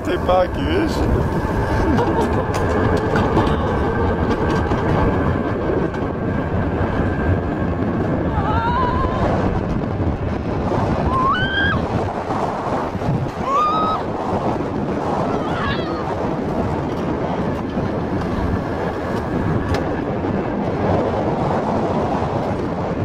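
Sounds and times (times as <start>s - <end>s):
coaster sled rumbling on rails: 0.0s - 23.0s
wind on microphone: 0.0s - 23.0s.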